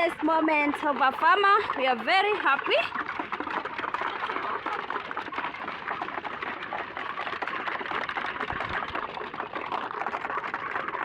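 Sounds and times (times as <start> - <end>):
chickens pecking at feed: 0.0 - 11.0.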